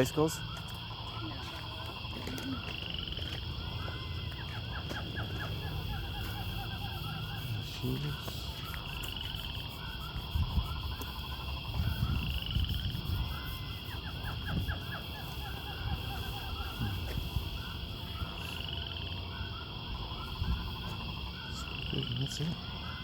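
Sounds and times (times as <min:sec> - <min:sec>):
small animals chirping and trilling: 0:00.0 - 0:23.0.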